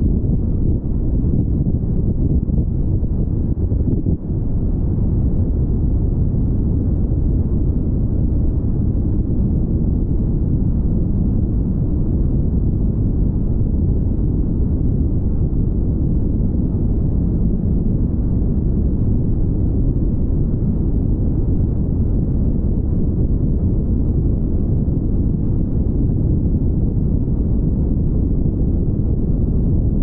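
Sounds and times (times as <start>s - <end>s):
wind noise on microphone: 0.0s - 30.0s.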